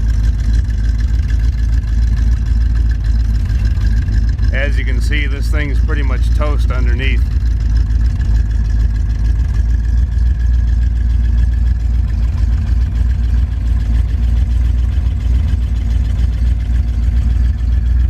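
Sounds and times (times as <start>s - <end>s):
pickup truck engine idling: 0.0s - 18.0s.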